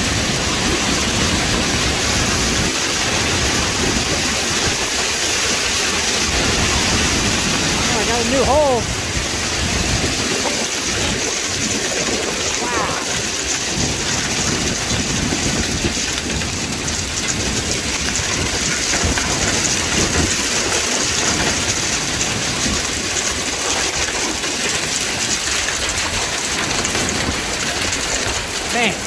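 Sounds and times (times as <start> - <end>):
heavy rain patter: 0.0 - 29.0
wind rumbling: 0.0 - 29.0.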